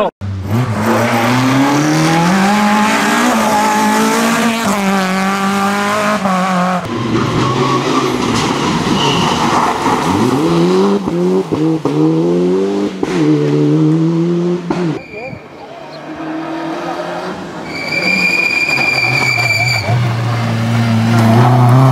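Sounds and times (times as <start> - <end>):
rally car revving with gear changes: 0.0 - 21.9
turbocharged engine upshifting: 0.0 - 21.9.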